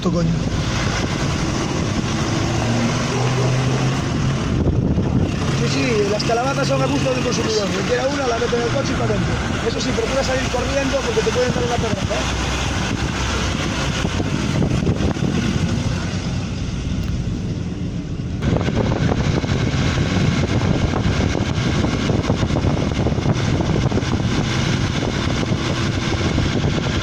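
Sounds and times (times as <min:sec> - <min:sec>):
vehicle engine and tyre noise: 0:00.0 - 0:27.0
wind buffeting microphone: 0:00.1 - 0:27.0.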